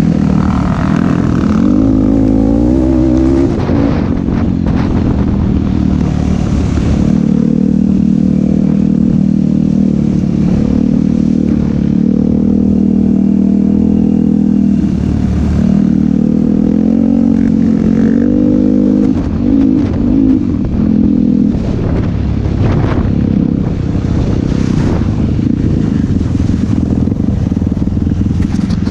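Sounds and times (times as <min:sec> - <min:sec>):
atv engine revving: 0:00.0 - 0:28.9.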